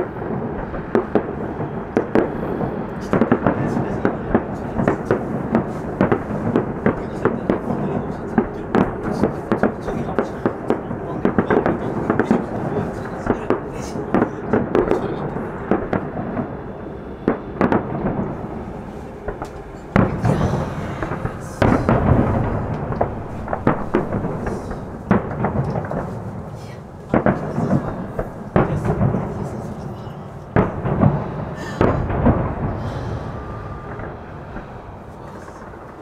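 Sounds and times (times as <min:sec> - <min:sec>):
firework shells bursting: 0:00.0 - 0:36.0.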